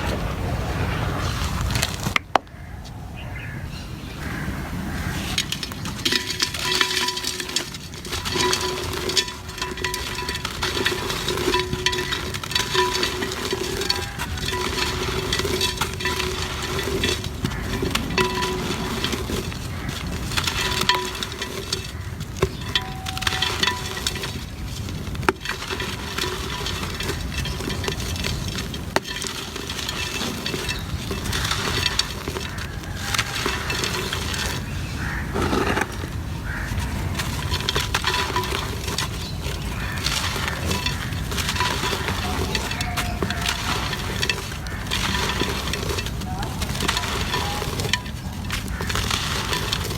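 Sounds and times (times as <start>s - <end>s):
cement crumbling and crackling: 0.0s - 2.5s, 5.0s - 49.9s.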